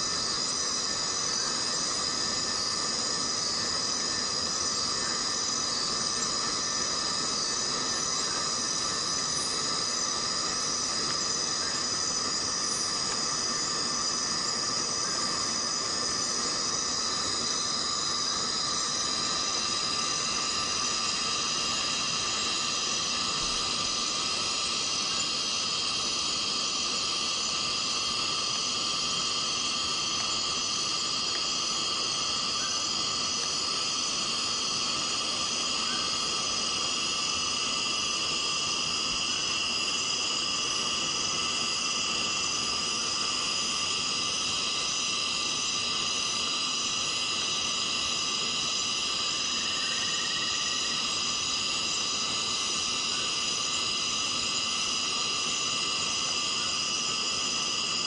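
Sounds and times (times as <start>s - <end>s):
cicadas buzzing: 0.0s - 58.0s
faint hiss: 0.0s - 58.0s.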